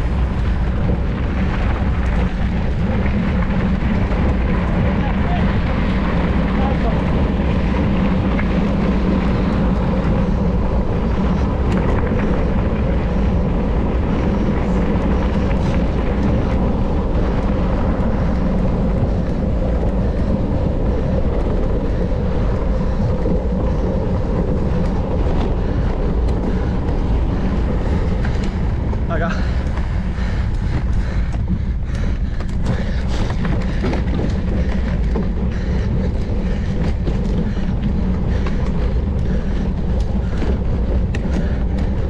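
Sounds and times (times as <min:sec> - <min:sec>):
bike tyres rolling: 0:00.0 - 0:42.0
faint rattles and ticks: 0:00.0 - 0:42.0
wind rushing: 0:00.0 - 0:42.0.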